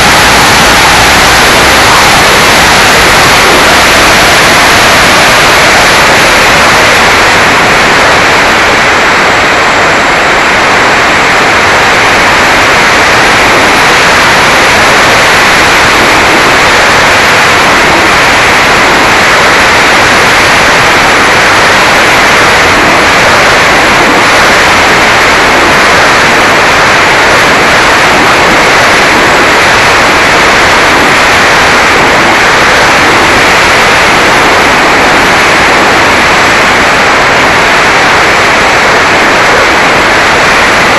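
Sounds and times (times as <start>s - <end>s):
motor noise: 0.0s - 40.9s
wind rush: 0.0s - 40.9s.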